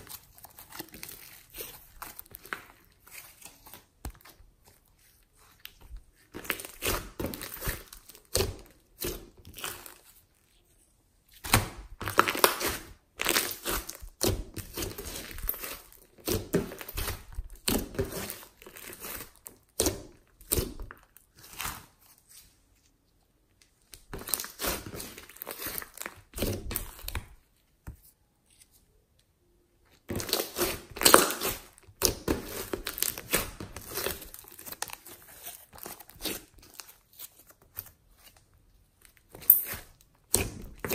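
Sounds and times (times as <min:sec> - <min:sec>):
slime squishing and crackling: 0:00.0 - 0:22.4, 0:23.9 - 0:27.6, 0:29.9 - 0:40.9.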